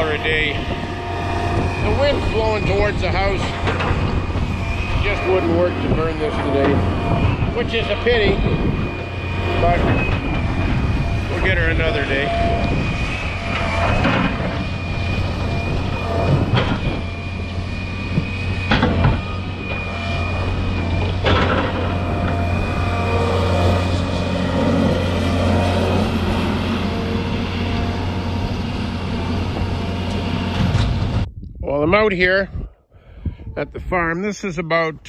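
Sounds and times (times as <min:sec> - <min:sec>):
excavator engine under load: 0:00.0 - 0:31.3
high steady whine: 0:00.0 - 0:32.0.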